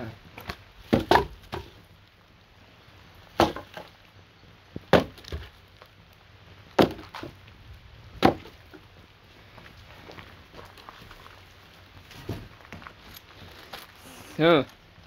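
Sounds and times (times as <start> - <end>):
firewood cracking: 0.2 - 15.0.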